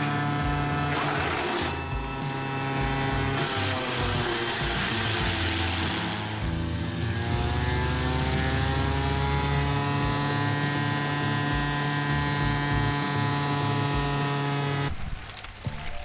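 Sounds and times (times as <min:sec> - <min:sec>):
large engine revving: 0:00.0 - 0:14.9.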